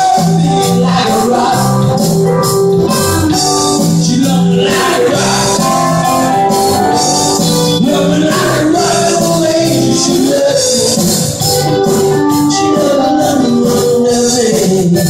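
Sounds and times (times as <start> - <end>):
drums: 0.0 - 15.0
electric bass: 0.0 - 15.0
electric guitars: 0.0 - 15.0
keyboard: 0.0 - 15.0.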